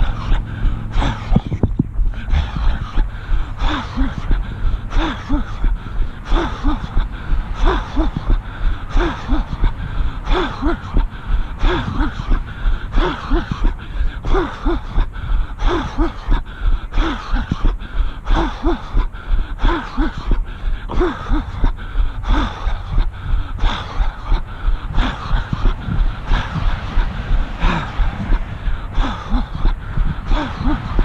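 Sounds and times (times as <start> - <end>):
runner breathing hard: 0.0 - 31.0
steady low rumble: 0.0 - 31.0.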